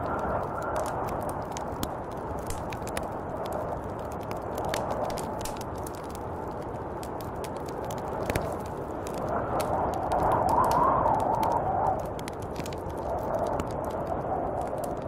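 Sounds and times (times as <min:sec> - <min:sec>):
light ticks and crackles: 0:00.0 - 0:15.0
snowstorm wind blowing: 0:00.0 - 0:15.0.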